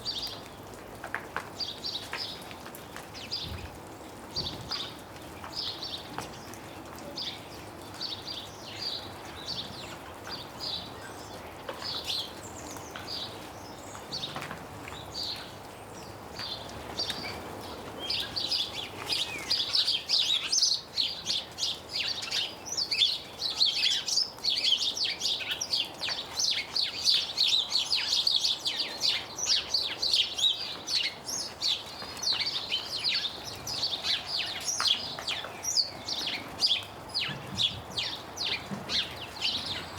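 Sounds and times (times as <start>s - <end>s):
water dripping with faint ticks: 0.0s - 39.9s
small birds chirping: 1.6s - 39.9s.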